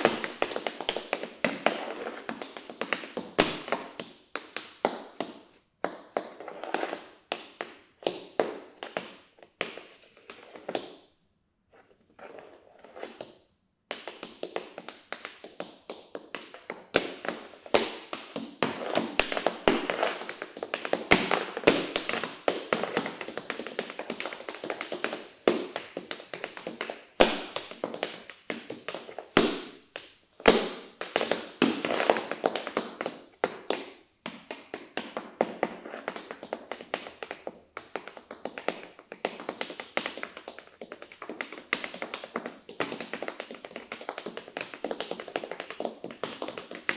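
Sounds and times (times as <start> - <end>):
tap shoes on hard floor: 0.0 - 11.0, 12.2 - 46.9.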